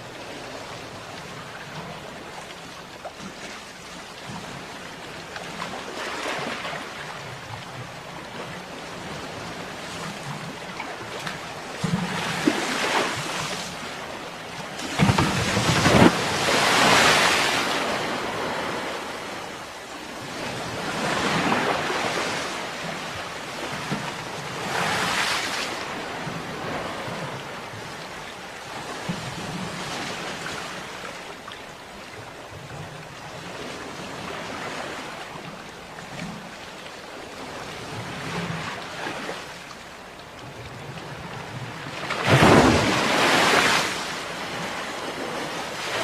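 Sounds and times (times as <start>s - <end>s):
ocean waves breaking on shore: 0.0s - 46.0s.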